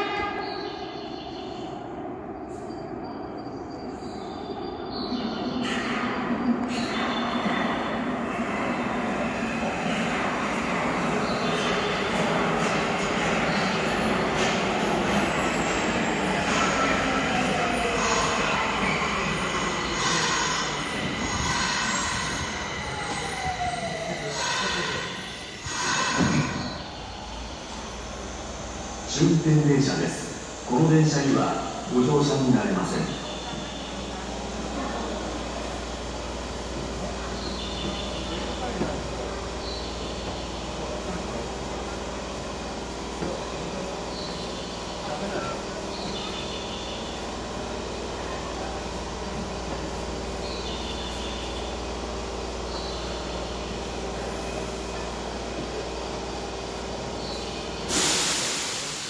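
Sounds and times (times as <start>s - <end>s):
subway train braking whine: 0.0s - 59.0s
wheels rumbling on rail: 0.0s - 59.0s.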